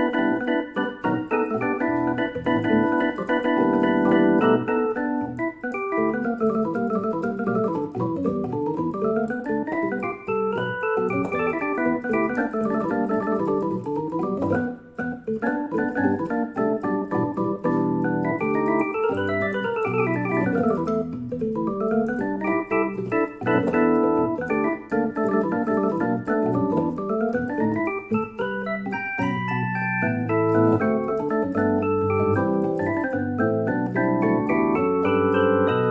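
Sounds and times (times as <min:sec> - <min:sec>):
keyboard playing organ chords: 0:00.0 - 0:35.9.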